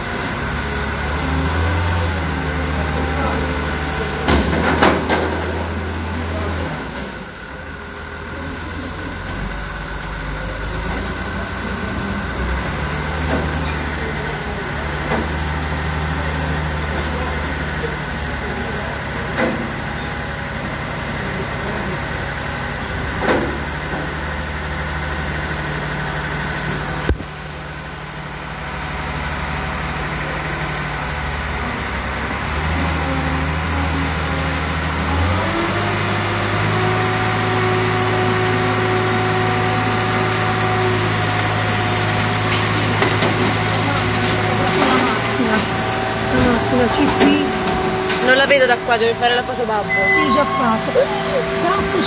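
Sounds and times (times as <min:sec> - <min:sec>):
truck diesel engine idling: 0:00.0 - 0:52.0.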